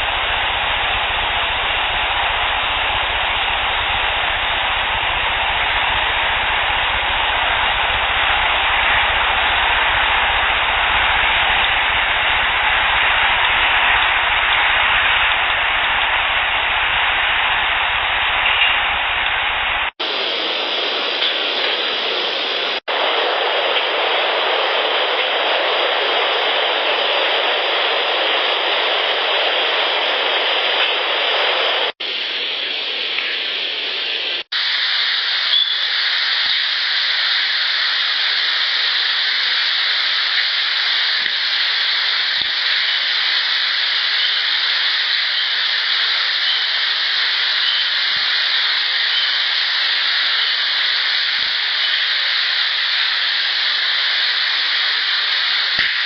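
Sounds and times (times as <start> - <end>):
outdoor recording hiss: 0.0 - 56.0.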